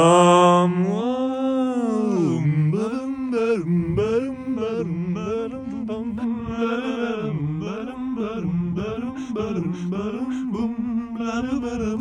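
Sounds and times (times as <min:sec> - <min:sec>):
person singing a slow lullaby: 0:00.0 - 0:12.0.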